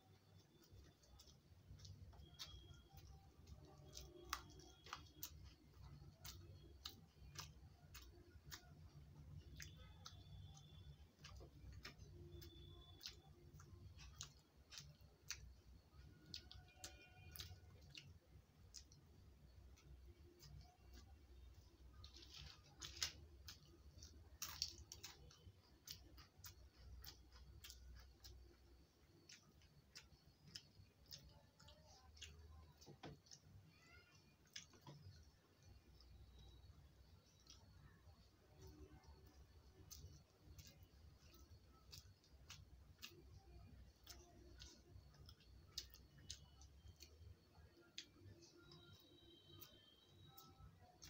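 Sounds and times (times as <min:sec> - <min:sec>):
person chewing: 0:00.0 - 0:51.0.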